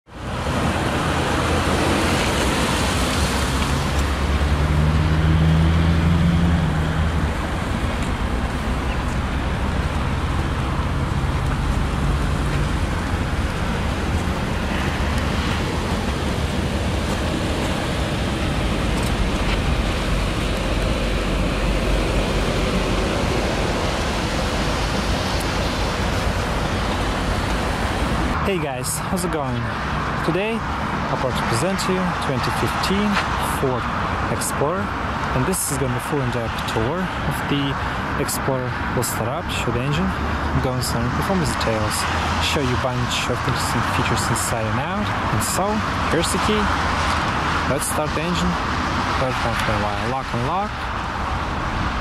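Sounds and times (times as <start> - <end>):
steady rushing noise: 0.1 - 52.0.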